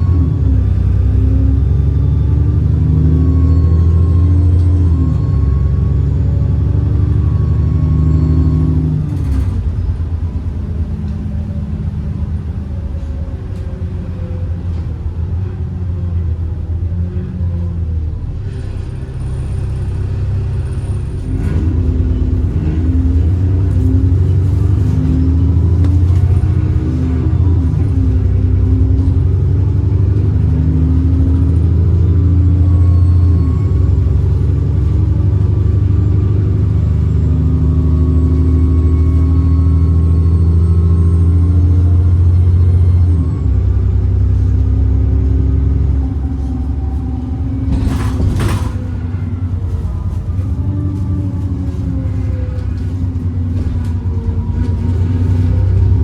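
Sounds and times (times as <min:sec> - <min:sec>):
bus diesel engine pulling hard: 0:00.0 - 0:56.0.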